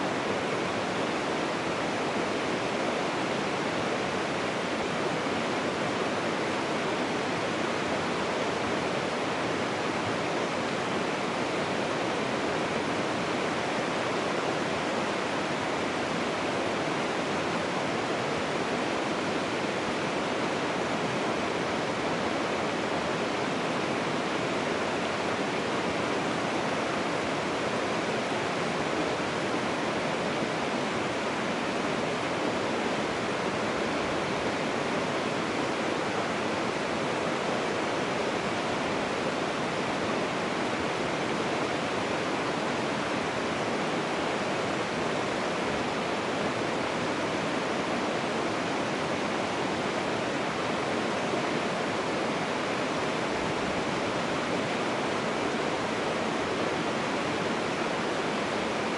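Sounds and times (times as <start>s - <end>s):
stream water rushing: 0.0s - 58.9s.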